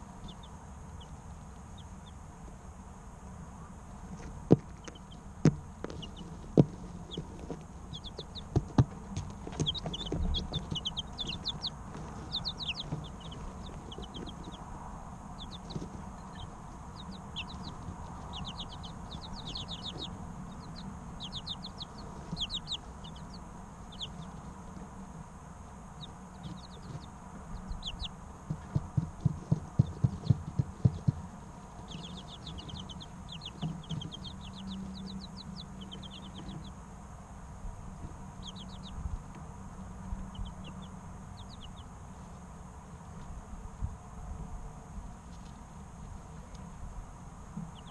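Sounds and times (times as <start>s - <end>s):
chicks peeping: 0.0s - 2.6s, 3.6s - 37.0s, 37.7s - 42.3s, 47.4s - 47.9s.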